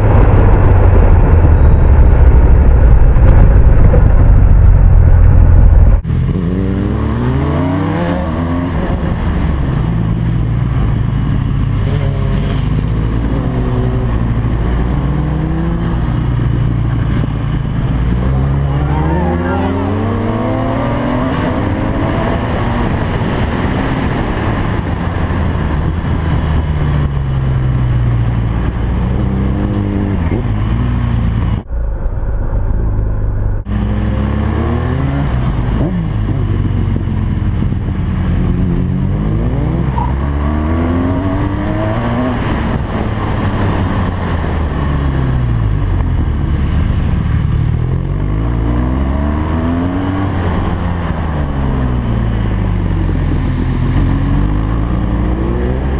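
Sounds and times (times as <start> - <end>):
motorcycle engine revving: 0.0 - 55.9
wind rush: 0.0 - 55.9.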